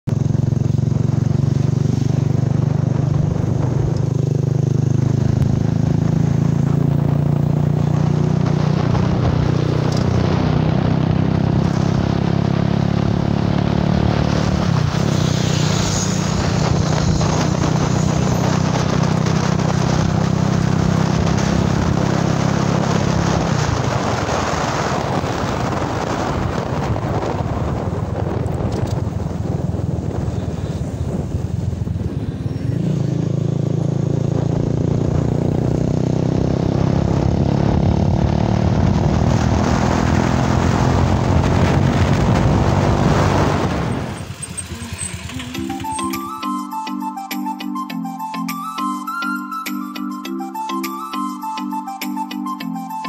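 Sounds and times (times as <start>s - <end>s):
road and wind noise: 0.0s - 53.0s
car engine hum: 0.1s - 46.5s.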